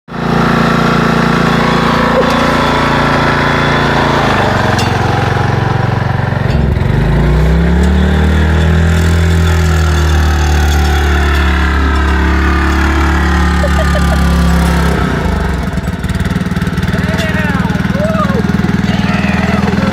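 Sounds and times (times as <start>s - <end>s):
lawnmower engine running: 0.1s - 19.9s.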